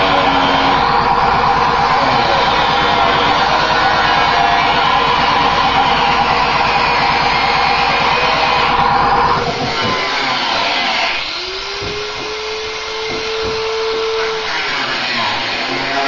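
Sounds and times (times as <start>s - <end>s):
angle grinder grinding steel: 0.0s - 16.0s
angle grinder whining freely: 0.0s - 16.0s.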